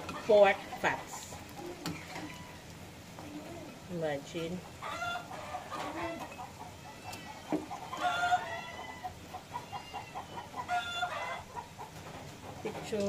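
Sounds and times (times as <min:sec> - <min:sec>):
food frying in hot oil: 0:00.0 - 0:10.6
chickens clucking: 0:00.0 - 0:13.0.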